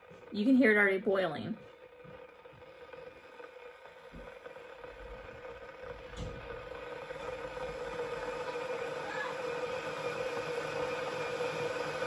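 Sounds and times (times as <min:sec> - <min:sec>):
electric kettle boiling water: 0:00.0 - 0:12.0.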